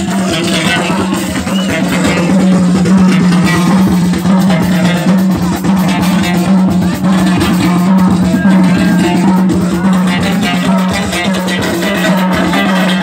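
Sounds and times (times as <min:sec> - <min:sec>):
loud music with fast beat: 0:00.0 - 0:13.0.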